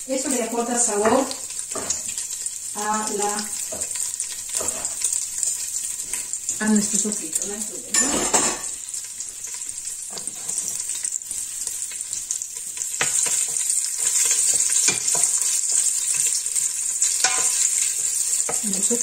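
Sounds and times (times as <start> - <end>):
fat sizzling in hot oil: 0.0 - 19.0.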